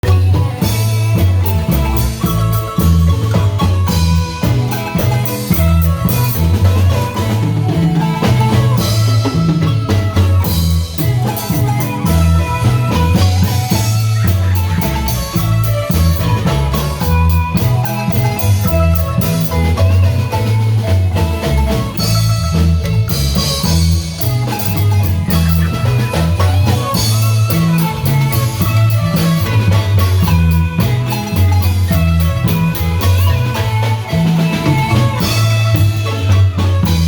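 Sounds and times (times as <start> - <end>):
drums keeping beat: 0.0 - 37.0
marimba notes: 0.0 - 37.0
repeating bass line: 0.0 - 37.0.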